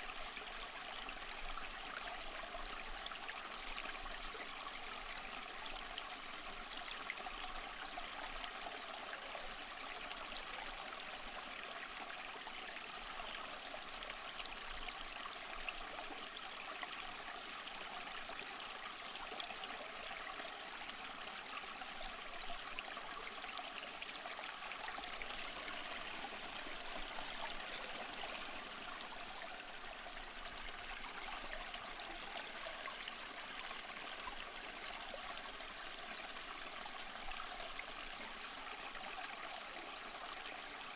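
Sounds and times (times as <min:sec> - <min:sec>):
stream running over stones: 0:00.0 - 0:40.9.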